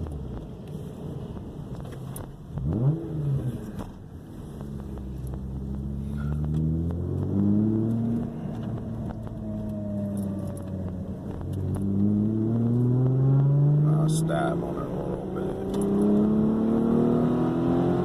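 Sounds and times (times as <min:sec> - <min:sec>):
car engine revving and accelerating: 0:02.0 - 0:18.0.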